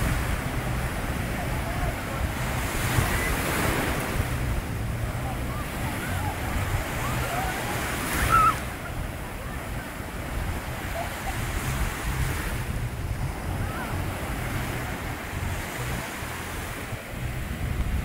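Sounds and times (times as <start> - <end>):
sea surf breaking: 0.0 - 18.0
wind buffeting microphone: 0.0 - 18.0.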